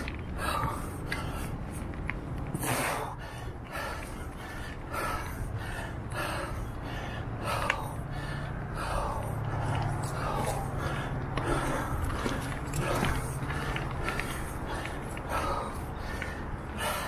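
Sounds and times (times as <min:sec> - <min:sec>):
person breathing hard: 0:00.0 - 0:17.0
tyres rolling on dirt trail: 0:00.0 - 0:17.0.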